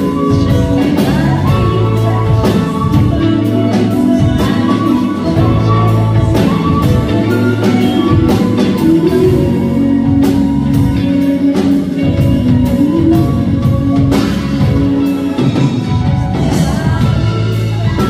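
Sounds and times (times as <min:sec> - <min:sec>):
bass: 0:00.0 - 0:18.0
drum kit beat: 0:00.0 - 0:18.0
electric guitar: 0:00.0 - 0:18.0
keyboard: 0:00.0 - 0:18.0.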